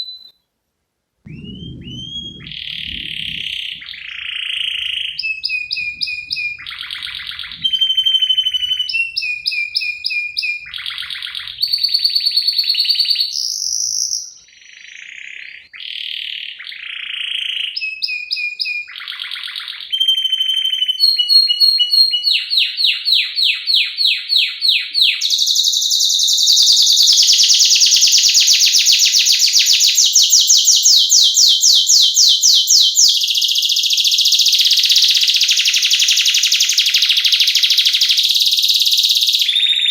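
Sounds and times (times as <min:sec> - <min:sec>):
canary singing trills: 0:01.3 - 0:39.9.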